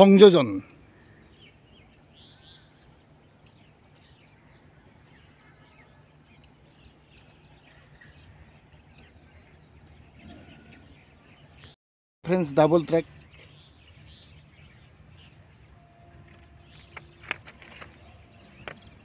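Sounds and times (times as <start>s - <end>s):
low steady hum: 0.0s - 19.0s
small birds chirping: 0.0s - 19.0s.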